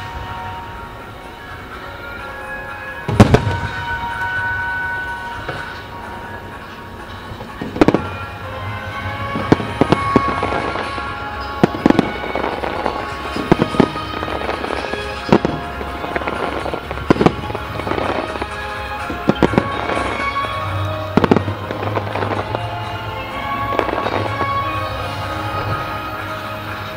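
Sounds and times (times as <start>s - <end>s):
firework shells booming: 0.0s - 26.9s
music: 0.0s - 26.9s.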